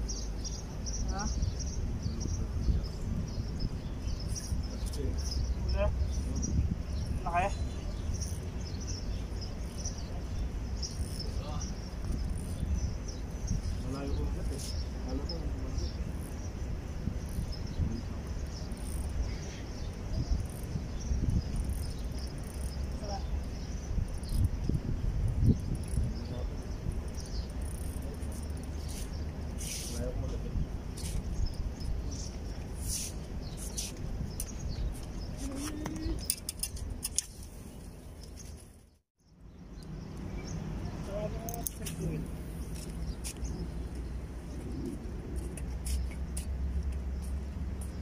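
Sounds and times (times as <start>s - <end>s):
wind rumble on microphone: 0.0s - 38.8s, 39.4s - 48.0s
small birds chirping: 0.0s - 48.0s.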